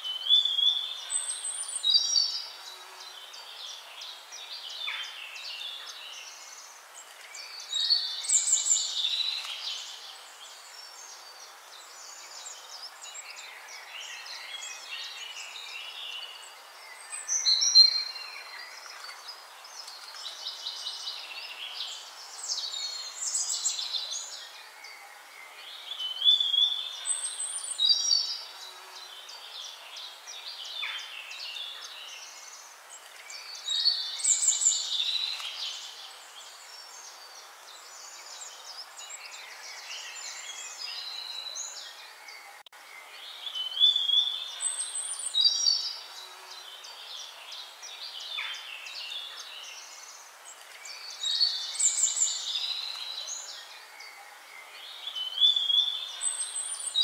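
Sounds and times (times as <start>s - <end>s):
birds singing and chirping: 0.0s - 57.0s
faint steady hiss: 0.0s - 57.0s.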